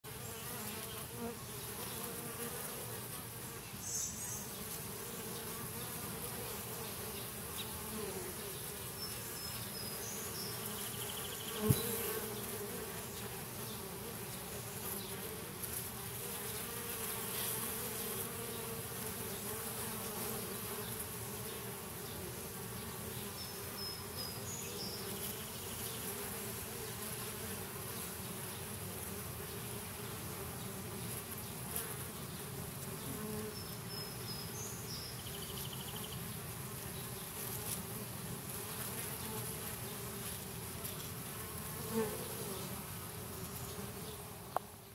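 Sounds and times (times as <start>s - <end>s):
bees buzzing: 0.1s - 44.9s.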